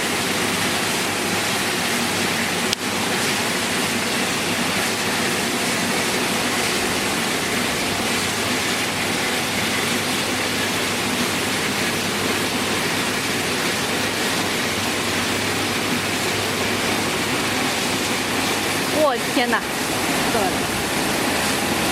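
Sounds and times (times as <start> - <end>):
water jets spraying crates: 0.0 - 21.9.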